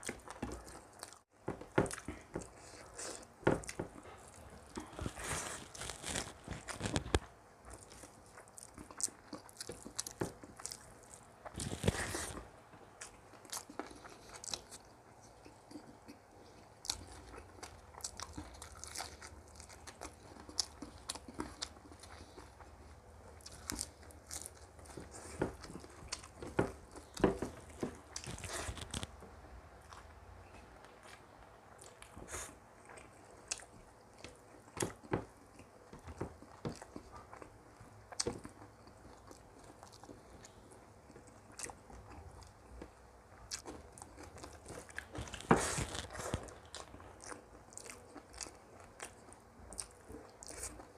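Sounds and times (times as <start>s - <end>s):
person crunching and chewing: 1.8s - 29.2s, 29.8s - 50.9s.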